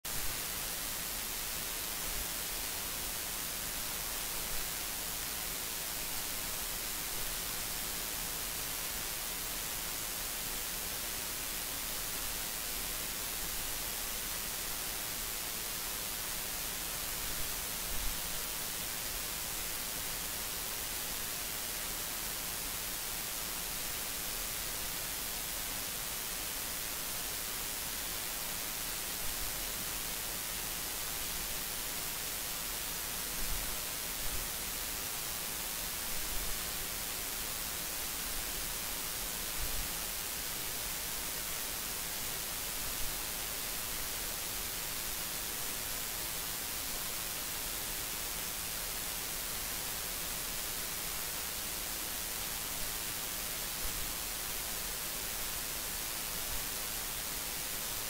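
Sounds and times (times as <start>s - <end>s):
recording hiss: 0.0s - 58.0s.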